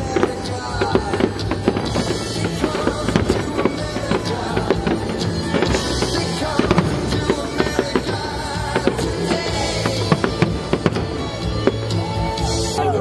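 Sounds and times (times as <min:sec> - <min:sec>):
fireworks bangs and crackles: 0:00.0 - 0:12.8
music: 0:00.0 - 0:13.0.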